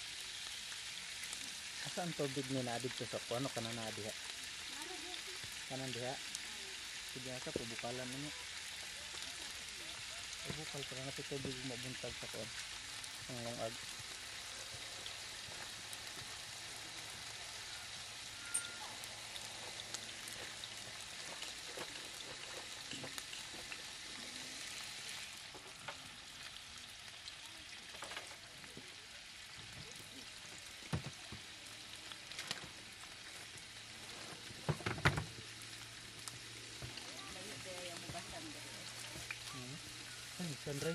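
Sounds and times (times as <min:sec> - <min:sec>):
sausages sizzling in a frying pan: 0:00.0 - 0:40.9.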